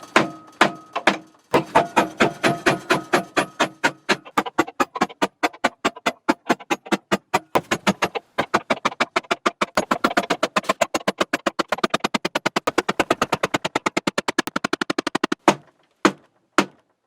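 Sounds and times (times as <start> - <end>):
rapid hammer blows on metal: 0.0 - 15.7.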